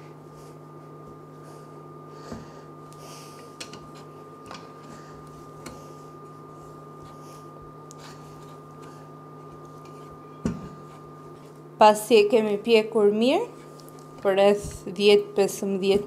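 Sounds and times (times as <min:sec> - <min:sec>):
electric cooktop hum and whine: 0:00.0 - 0:16.0.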